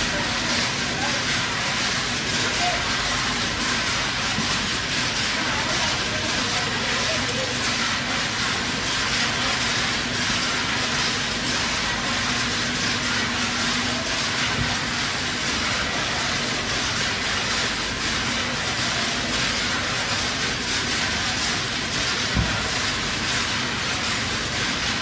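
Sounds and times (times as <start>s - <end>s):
foundry machinery hiss and rumble: 0.0s - 25.0s.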